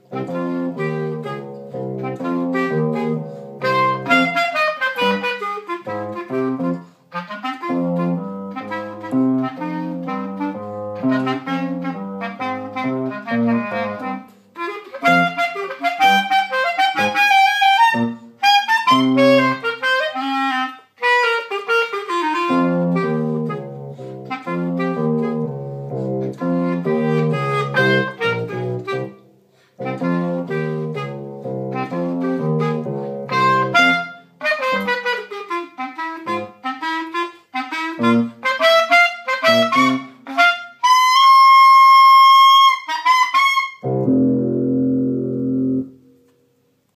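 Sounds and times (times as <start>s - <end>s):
clarinet playing lively piece: 0.0s - 46.1s.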